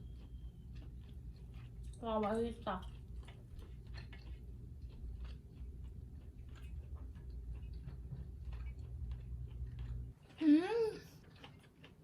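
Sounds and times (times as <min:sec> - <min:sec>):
person chewing: 0:00.0 - 0:12.0
steady low hum: 0:00.0 - 0:12.0.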